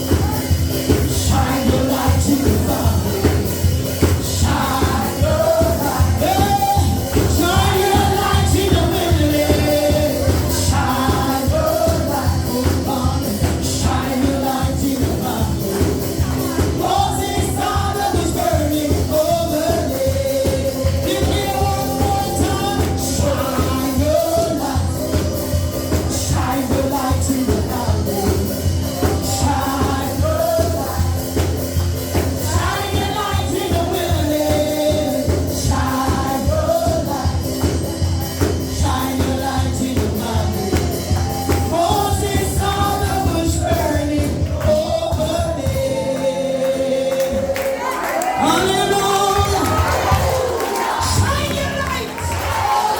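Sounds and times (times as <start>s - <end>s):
band with driving beat: 0.0s - 52.9s
voices singing: 0.0s - 52.9s.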